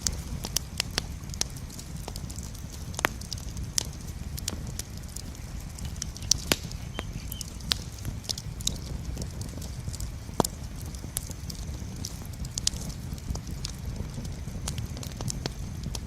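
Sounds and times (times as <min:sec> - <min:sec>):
campfire flames rumbling: 0:00.0 - 0:16.0
fire crackling and popping: 0:00.0 - 0:16.0.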